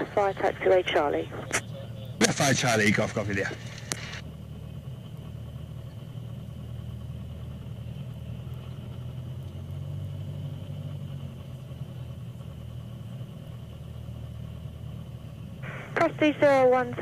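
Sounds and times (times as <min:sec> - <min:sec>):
aircraft piston engine running: 0:00.0 - 0:17.0
steady high whine: 0:00.0 - 0:17.0.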